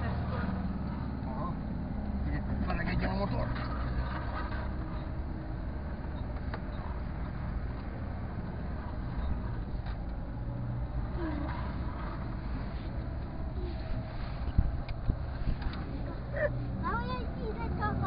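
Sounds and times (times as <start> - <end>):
car engine running: 0.0 - 18.0
tyre and road noise: 0.0 - 18.0.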